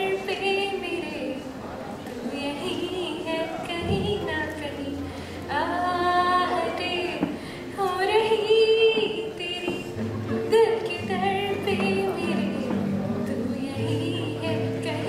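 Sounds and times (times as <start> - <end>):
woman singing: 0.0 - 1.5, 2.3 - 15.0
acoustic guitar: 0.0 - 15.0.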